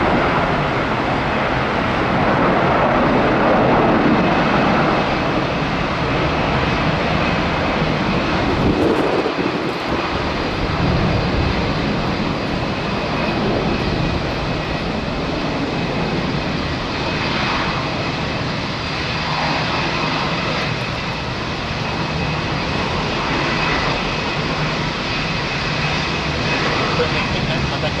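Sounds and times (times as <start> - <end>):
jet engines at takeoff power: 0.0 - 28.0.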